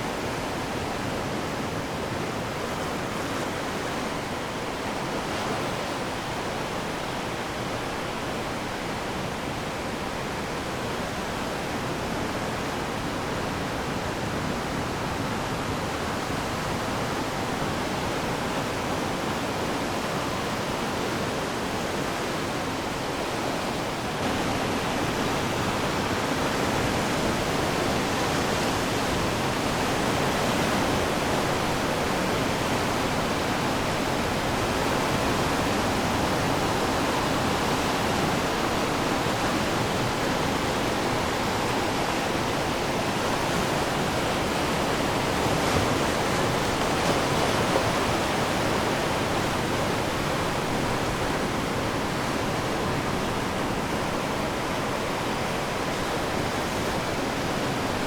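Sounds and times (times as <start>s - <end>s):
ocean surf washing ashore: 0.0s - 58.0s.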